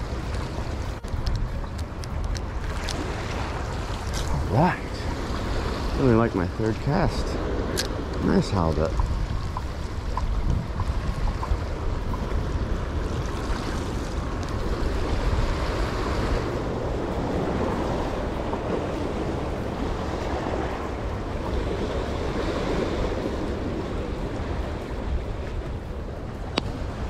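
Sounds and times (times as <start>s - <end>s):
waves washing over rocks: 0.0s - 27.0s
wind rumbling on microphone: 0.0s - 27.0s.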